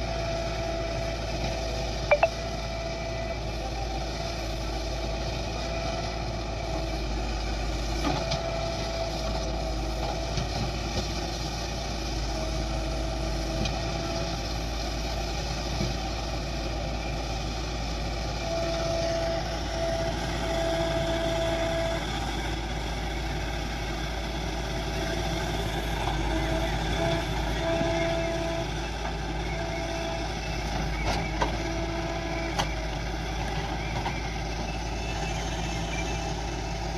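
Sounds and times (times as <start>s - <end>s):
diesel engines running: 0.0s - 36.9s.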